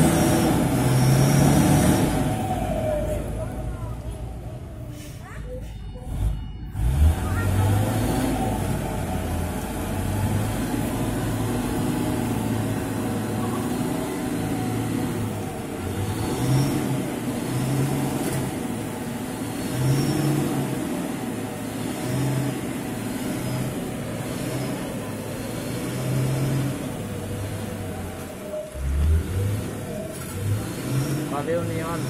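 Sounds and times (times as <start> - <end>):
truck diesel engine labouring: 0.0 - 32.0.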